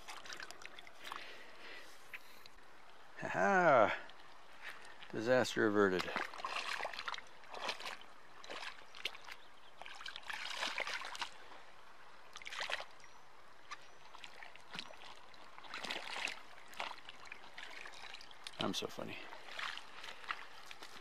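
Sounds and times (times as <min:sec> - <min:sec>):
water splashing: 0:00.0 - 0:01.8, 0:03.2 - 0:11.6, 0:12.2 - 0:13.0, 0:13.6 - 0:21.0.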